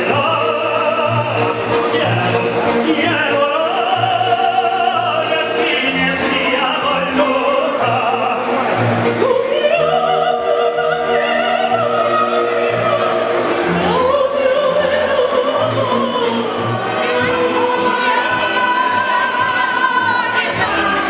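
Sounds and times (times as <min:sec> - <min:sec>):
operatic singing: 0:00.0 - 0:21.0
orchestral accompaniment: 0:00.0 - 0:21.0.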